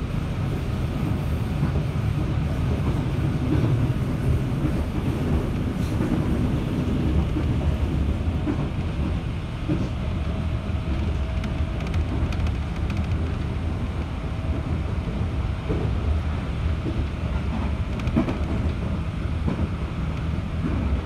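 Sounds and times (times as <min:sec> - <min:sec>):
train running noise inside car: 0:00.0 - 0:21.0.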